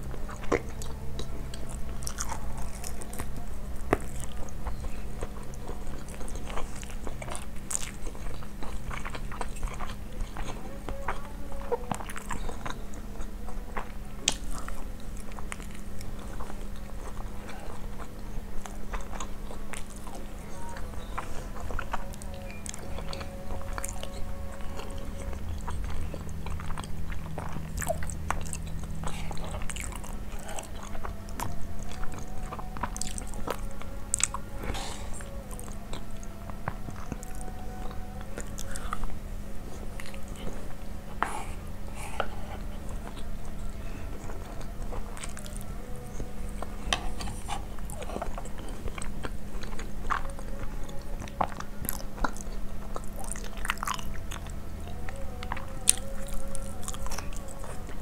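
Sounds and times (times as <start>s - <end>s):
close chewing with mouth clicks: 0.0s - 58.0s
steady low hum: 0.0s - 58.0s.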